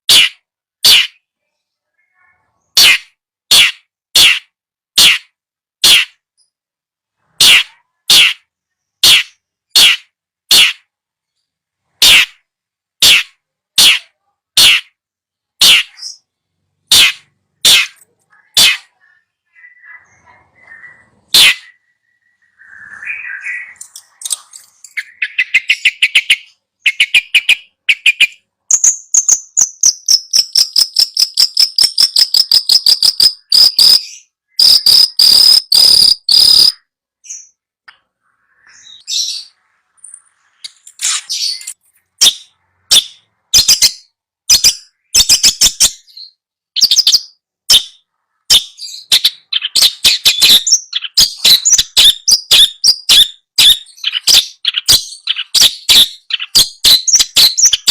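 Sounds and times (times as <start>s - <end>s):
songbird chattering song: 7.2s - 57.9s.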